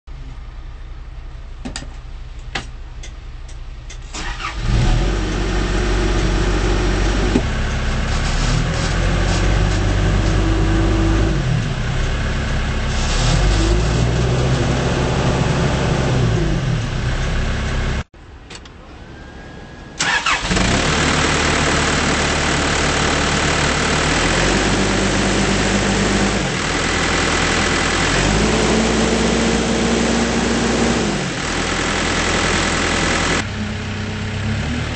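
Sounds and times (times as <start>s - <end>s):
diesel engine revving: 4.1s - 18.0s, 20.0s - 34.9s.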